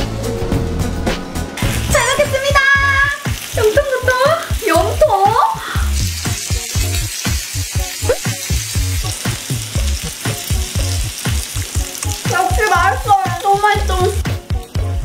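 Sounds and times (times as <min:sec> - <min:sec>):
background music with steady beat: 0:00.0 - 0:15.0
meat sizzling on griddle: 0:01.6 - 0:15.0.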